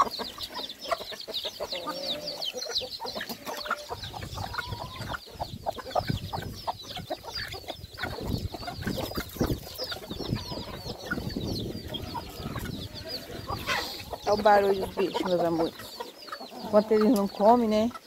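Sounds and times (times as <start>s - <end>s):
chickens clucking and calling: 0.0s - 18.0s.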